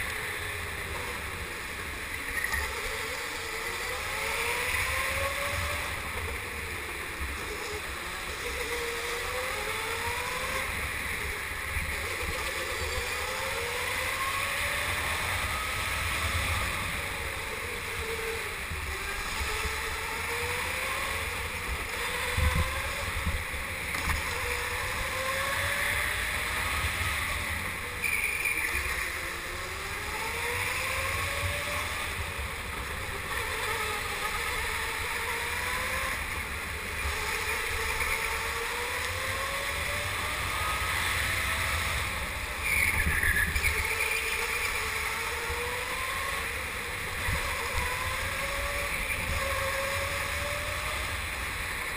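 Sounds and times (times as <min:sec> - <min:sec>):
go-kart motor: 0:00.0 - 0:51.9.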